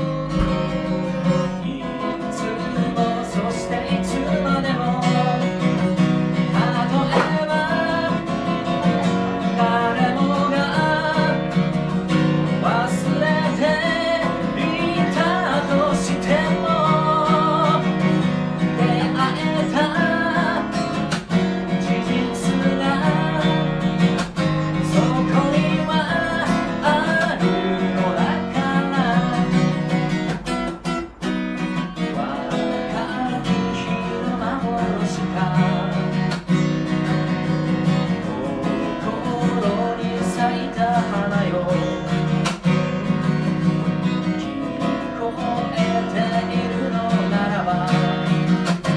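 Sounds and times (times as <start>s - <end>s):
man singing: 0.0s - 30.4s, 31.3s - 48.9s
acoustic guitar strumming: 0.0s - 48.9s.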